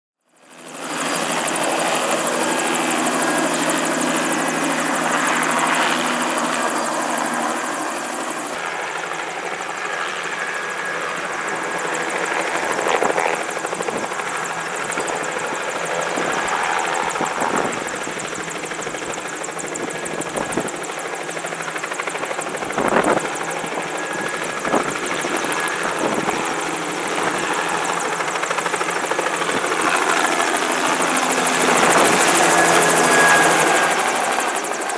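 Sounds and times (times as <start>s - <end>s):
helicopter turbine and rotor: 0.2s - 34.9s.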